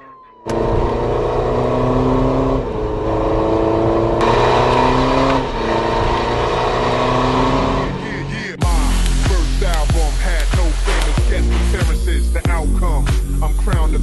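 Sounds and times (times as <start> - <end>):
diesel car engine through loud exhaust: 0.4 - 14.0.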